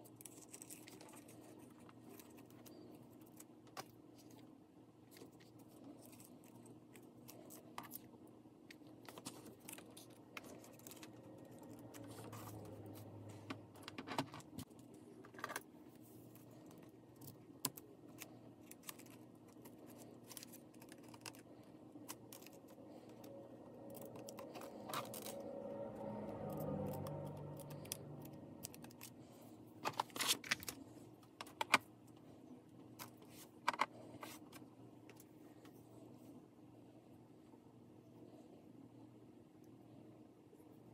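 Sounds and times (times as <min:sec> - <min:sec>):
soft low hum: 0:00.0 - 0:40.9.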